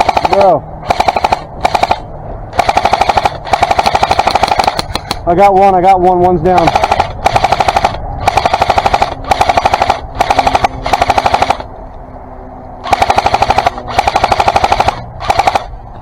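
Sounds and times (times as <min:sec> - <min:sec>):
airsoft gun full-auto bursts: 0:00.0 - 0:05.2, 0:06.6 - 0:11.7, 0:12.8 - 0:15.7.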